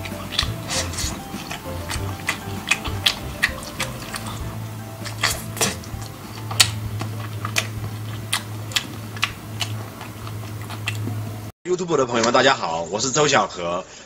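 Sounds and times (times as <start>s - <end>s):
low steady hum: 0.0s - 11.5s
soft background music: 0.0s - 11.5s
wet chewing clicks and smacks: 0.0s - 11.5s.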